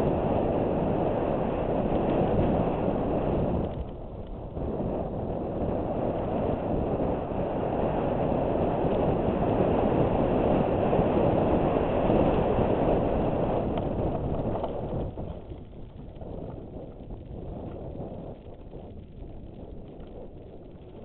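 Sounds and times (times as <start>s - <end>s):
bike tyres rumbling on dirt: 0.0s - 21.0s
wind rushing over camera: 0.0s - 21.0s.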